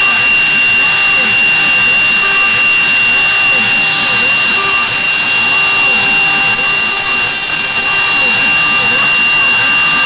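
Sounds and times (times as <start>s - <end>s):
end mill cutting metal: 0.0s - 10.0s
router spindle whining: 0.0s - 10.0s.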